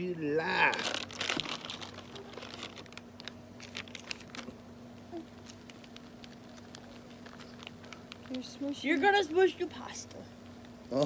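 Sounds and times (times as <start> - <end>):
faint steady hum: 0.0 - 11.0
food pouch crinkling: 0.5 - 11.0.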